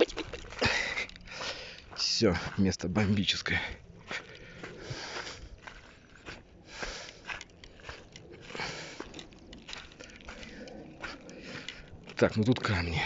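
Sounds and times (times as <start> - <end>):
footsteps crunching on loose stones: 0.0 - 13.0.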